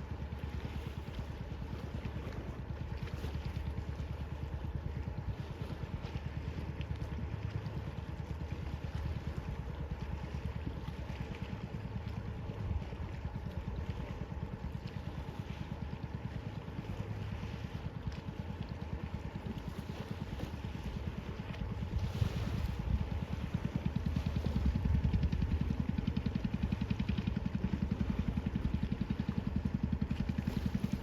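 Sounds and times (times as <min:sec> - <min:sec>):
low engine rumble: 0:00.0 - 0:31.0.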